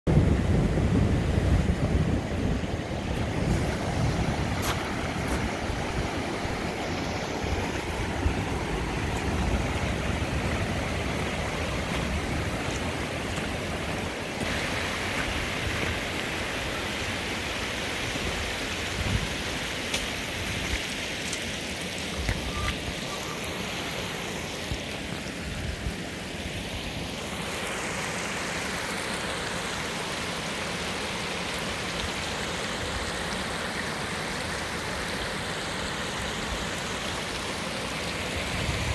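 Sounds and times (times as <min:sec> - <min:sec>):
floodwater rushing: 0:00.1 - 0:38.9.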